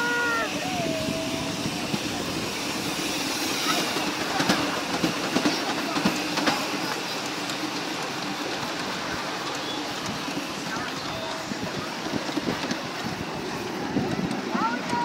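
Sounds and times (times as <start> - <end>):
train wheels rumbling on rail: 0.0 - 15.0
wheels clicking over rail joints: 0.0 - 15.0.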